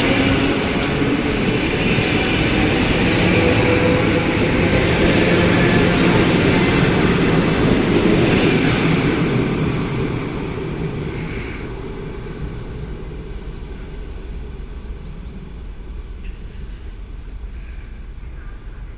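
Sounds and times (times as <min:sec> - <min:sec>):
electric train rumble: 0:00.0 - 0:18.9.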